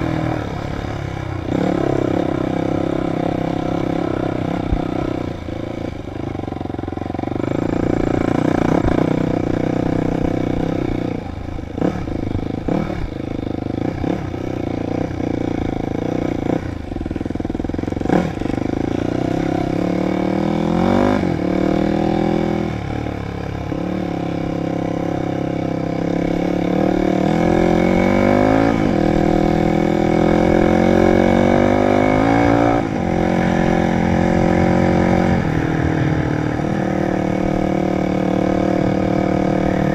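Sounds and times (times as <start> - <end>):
dirt bike engine revving: 0.0 - 11.1, 11.8 - 39.9.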